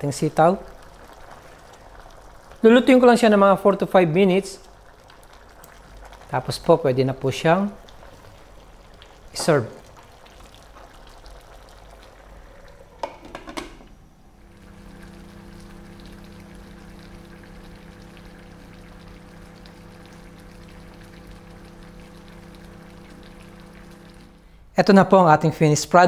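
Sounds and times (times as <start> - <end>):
sauce simmering in a pan: 0.0 - 13.0, 14.3 - 24.7.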